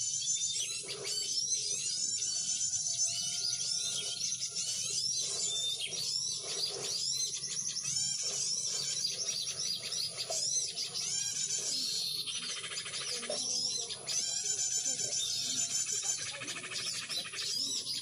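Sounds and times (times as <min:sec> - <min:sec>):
small birds chirping: 0:00.0 - 0:18.0
bird rattling trill: 0:01.8 - 0:18.0.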